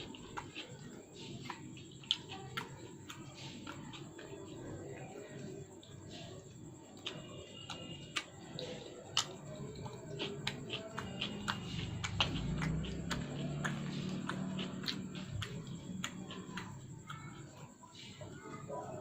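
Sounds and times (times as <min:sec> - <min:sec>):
chewing and mouth sounds: 0:00.0 - 0:19.0.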